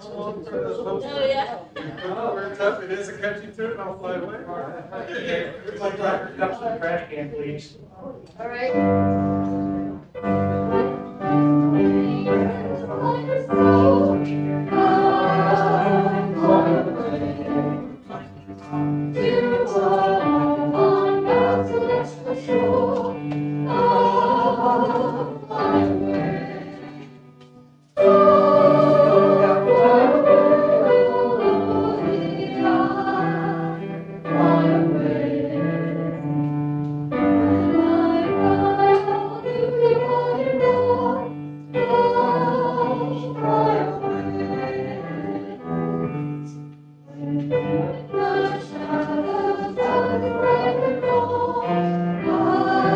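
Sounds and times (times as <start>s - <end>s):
choir singing gospel song: 8.9s - 27.3s, 28.0s - 46.2s, 47.1s - 52.9s.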